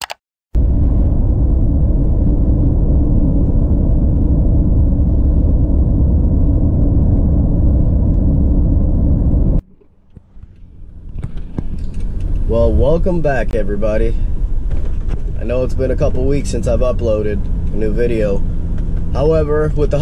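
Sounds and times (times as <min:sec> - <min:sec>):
moving vehicle rumble: 0:00.6 - 0:20.0.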